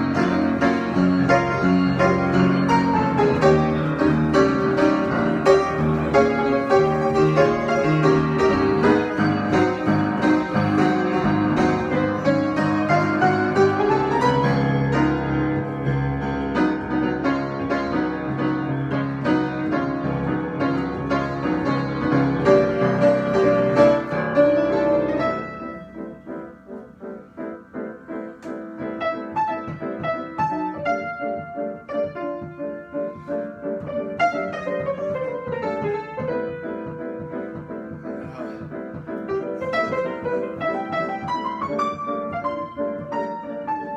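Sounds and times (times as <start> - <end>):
solo piano playing: 0.0 - 43.9.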